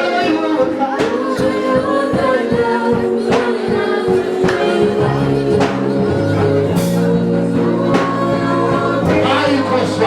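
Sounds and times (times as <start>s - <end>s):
choir singing held notes: 0.0s - 10.0s
steady drum beat: 0.9s - 10.0s.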